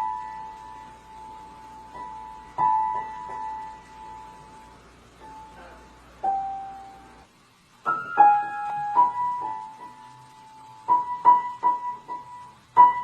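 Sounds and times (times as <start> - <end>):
piano notes in simple tune: 0.0 - 13.0.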